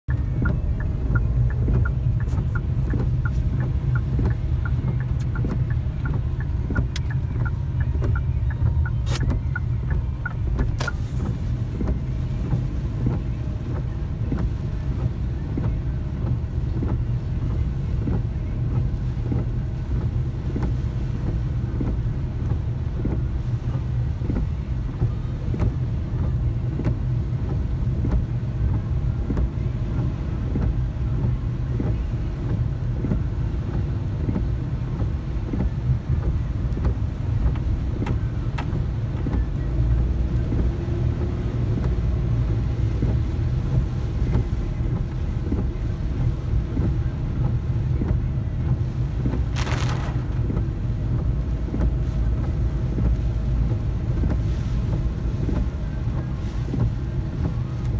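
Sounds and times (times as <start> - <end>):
car driving on wet road: 0.1 - 57.9
heavy rain: 0.1 - 57.9.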